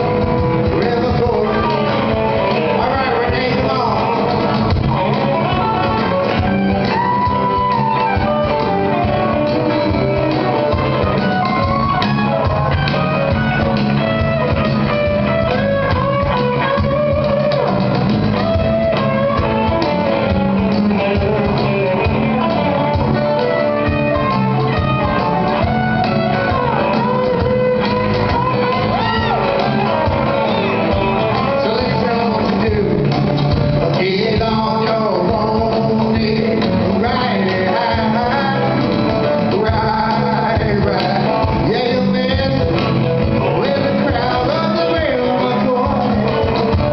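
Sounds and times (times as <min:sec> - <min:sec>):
acoustic guitar melody: 0:00.0 - 0:46.9
cajon beat: 0:00.0 - 0:46.9
electric bass: 0:00.0 - 0:46.9.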